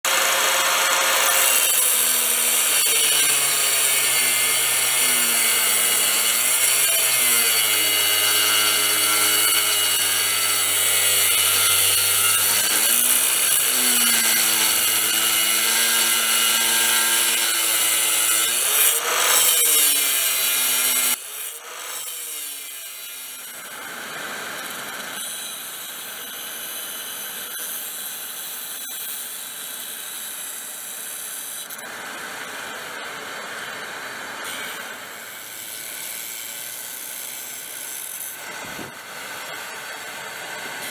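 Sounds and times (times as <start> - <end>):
angle grinder cutting steel: 0.0 - 40.9.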